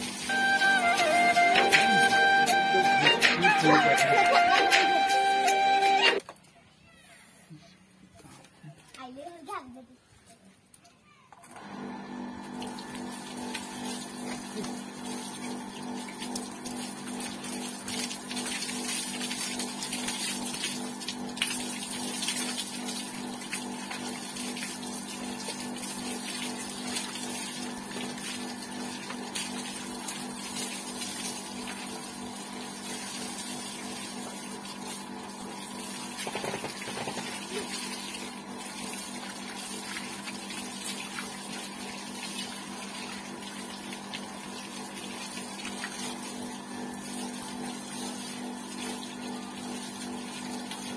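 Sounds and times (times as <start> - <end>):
hose water spraying and splashing: 0.0 - 2.8, 12.5 - 50.9
electric water pump humming: 0.0 - 6.4, 11.4 - 50.9.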